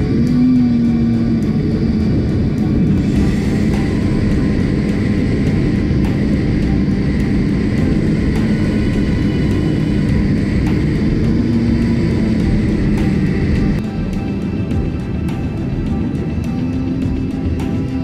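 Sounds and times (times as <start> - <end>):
snowmobile engines humming: 0.0 - 18.0.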